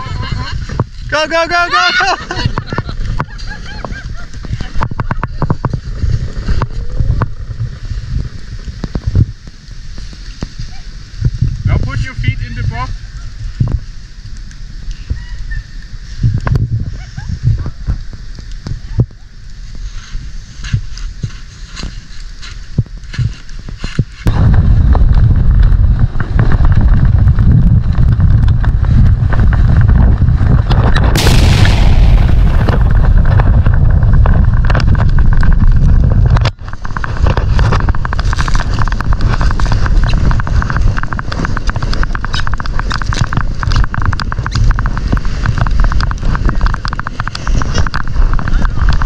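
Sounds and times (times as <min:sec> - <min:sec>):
sled sliding over snow: 0:00.0 - 0:31.3, 0:32.2 - 0:49.0
wind buffeting microphone: 0:00.0 - 0:49.0.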